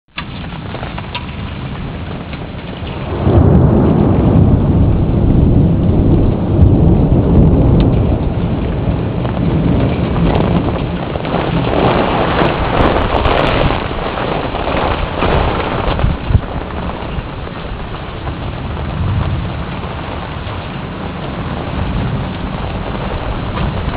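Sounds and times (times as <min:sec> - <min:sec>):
rain falling: 0:00.1 - 0:23.9
thunder rumbling: 0:00.2 - 0:23.9.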